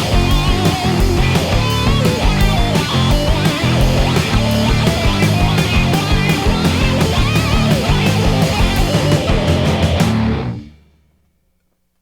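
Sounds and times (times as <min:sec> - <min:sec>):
rock music with electric guitar: 0:00.0 - 0:10.8.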